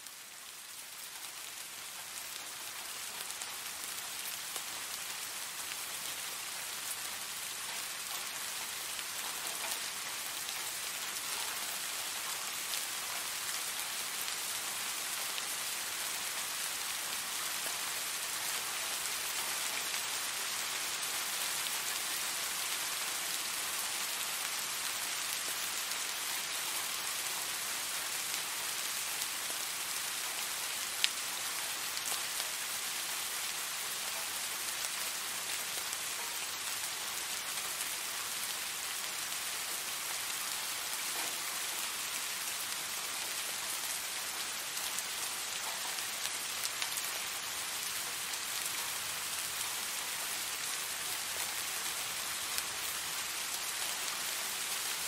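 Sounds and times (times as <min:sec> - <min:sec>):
soft rain hissing: 0:00.0 - 0:55.0.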